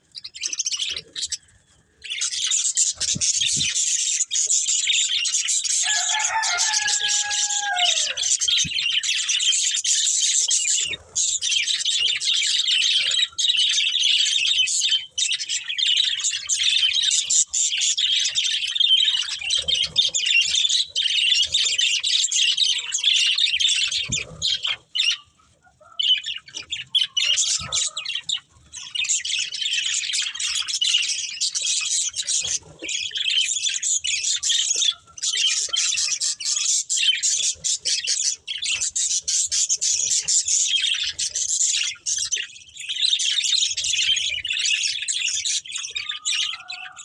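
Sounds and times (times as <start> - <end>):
budgerigars chattering and chirping: 0.0 - 47.0.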